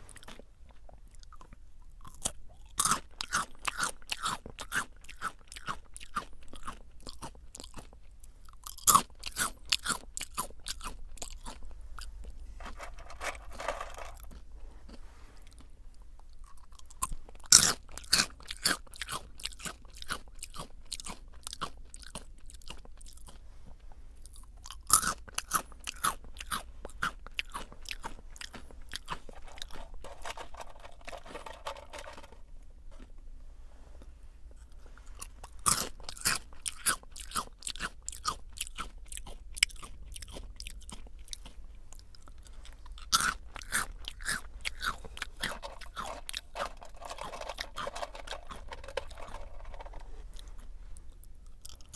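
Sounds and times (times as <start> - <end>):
crunchy snack biting and chewing: 0.1 - 14.4, 16.4 - 23.4, 24.2 - 31.6, 35.4 - 50.6.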